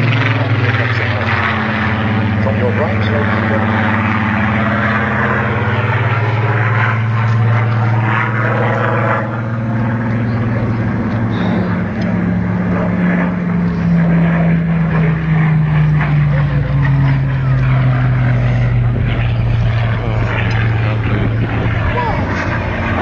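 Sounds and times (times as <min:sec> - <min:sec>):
propeller plane engine flyby: 0:00.0 - 0:23.0.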